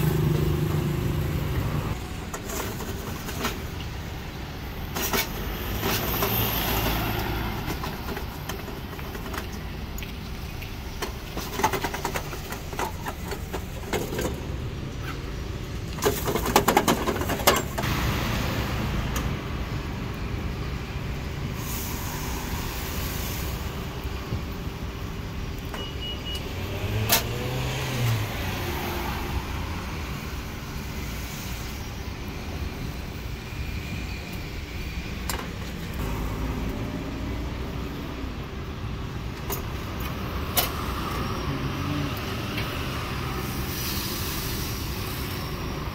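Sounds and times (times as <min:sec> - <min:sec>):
steady traffic noise: 0:00.0 - 0:45.9.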